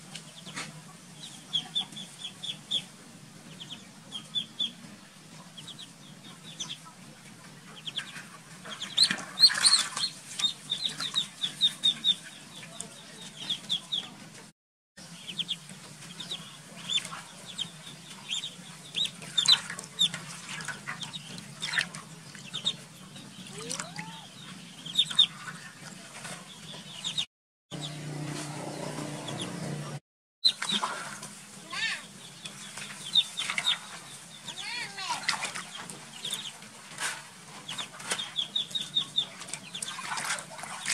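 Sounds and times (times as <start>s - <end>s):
ducklings peeping: 0.0s - 14.4s, 15.0s - 40.9s.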